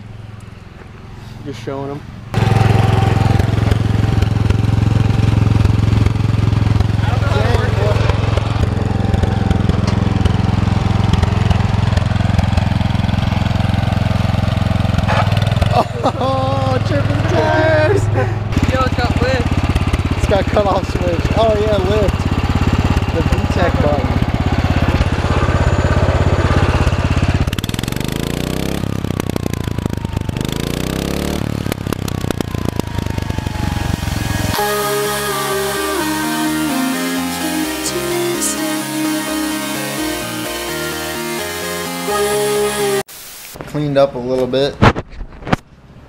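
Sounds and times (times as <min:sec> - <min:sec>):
garden tractor engine running: 0:00.4 - 0:39.3.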